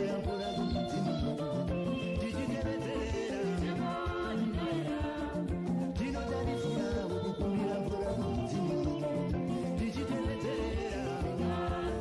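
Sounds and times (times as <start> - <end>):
background music with beat and bass: 0.0 - 12.0.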